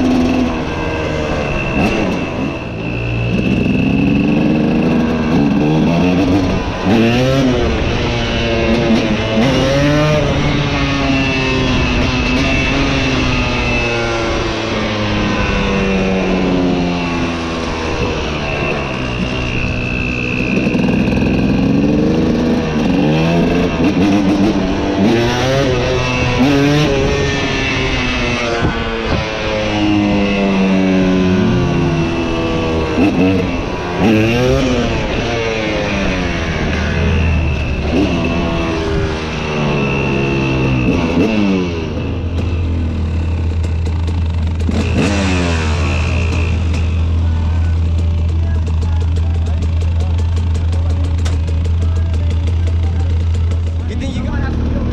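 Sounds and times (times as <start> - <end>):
vehicle engine revving: 0.0 - 54.9.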